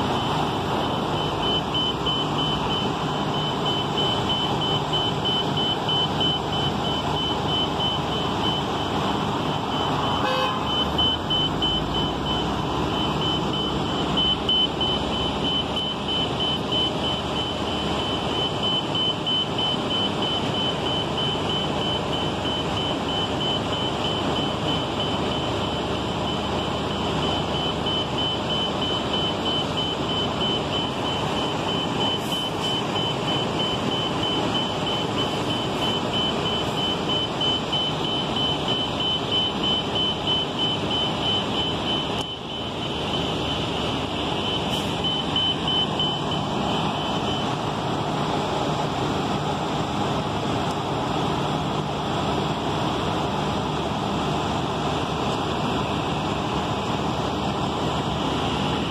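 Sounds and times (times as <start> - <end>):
bus engine idling: 0.0 - 58.9
fast high-pitched beep: 0.2 - 47.5.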